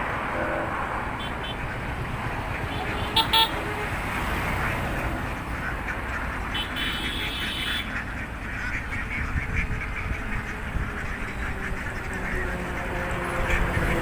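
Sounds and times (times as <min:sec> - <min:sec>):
ducks quacking: 0:00.4 - 0:14.0.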